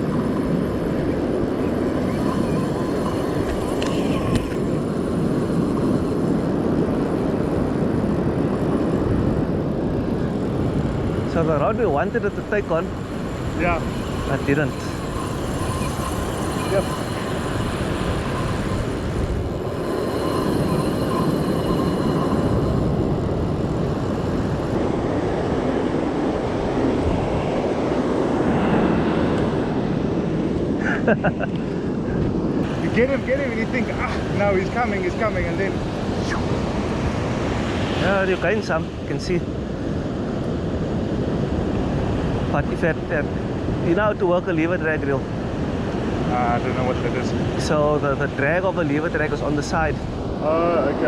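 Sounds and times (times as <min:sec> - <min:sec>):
surf rushing: 0:00.0 - 0:30.8, 0:32.5 - 0:51.0
wind on microphone: 0:00.0 - 0:51.0.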